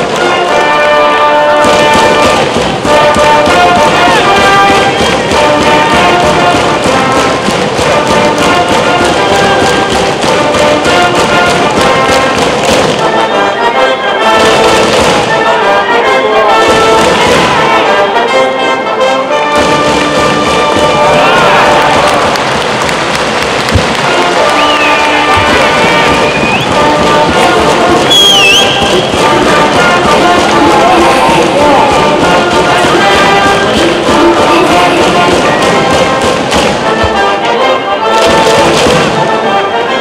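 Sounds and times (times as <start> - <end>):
brass band playing: 0.0 - 40.0.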